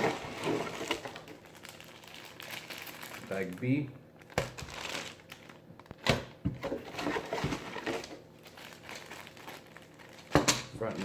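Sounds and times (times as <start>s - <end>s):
plastic bags crinkling: 0.0s - 6.0s, 6.7s - 11.0s.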